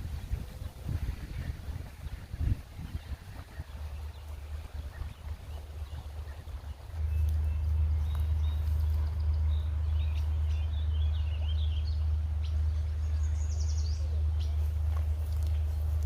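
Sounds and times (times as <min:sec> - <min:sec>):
birds chirping: 0:00.0 - 0:16.0
wind rumble on microphone: 0:00.0 - 0:16.0.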